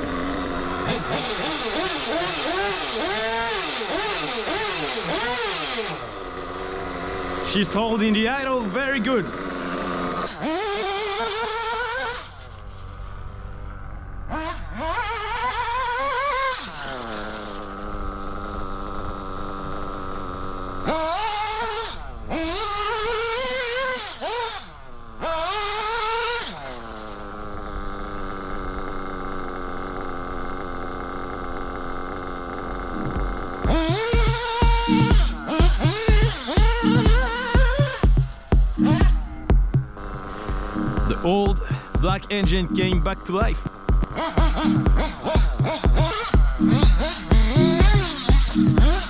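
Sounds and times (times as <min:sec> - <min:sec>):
model engine idling and revving: 0:00.0 - 0:49.0.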